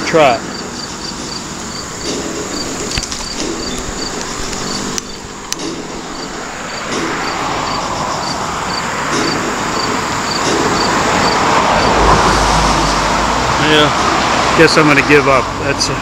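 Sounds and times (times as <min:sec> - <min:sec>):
insect chirping: 0:00.0 - 0:14.3
road traffic noise: 0:00.0 - 0:16.0
vehicle passing: 0:00.0 - 0:16.0.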